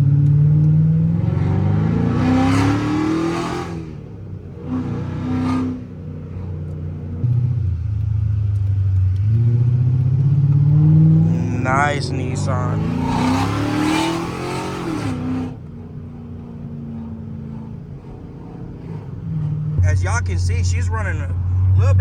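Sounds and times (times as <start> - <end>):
car engine accelerating from inside: 0.0 - 22.0.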